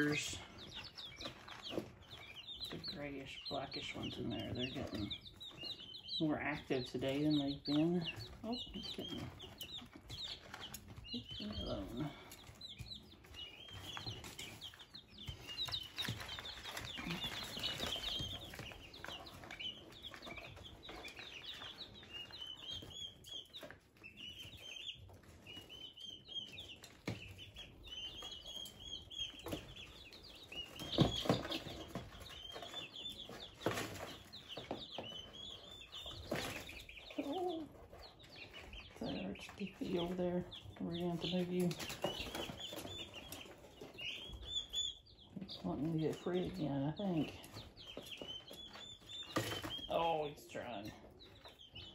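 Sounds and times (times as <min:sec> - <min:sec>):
chicks peeping: 0:00.0 - 0:51.9.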